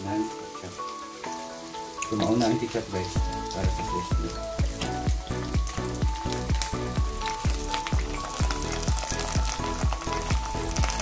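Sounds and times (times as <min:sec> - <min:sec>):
background music with beat: 0:00.0 - 0:11.0
sauce sizzling in frying pan: 0:00.0 - 0:11.0.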